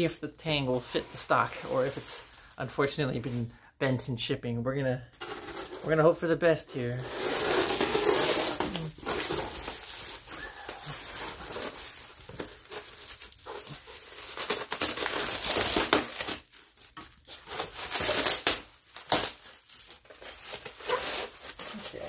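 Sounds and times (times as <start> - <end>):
plastic wrap crinkling and tearing: 0.0 - 3.4, 6.8 - 22.0.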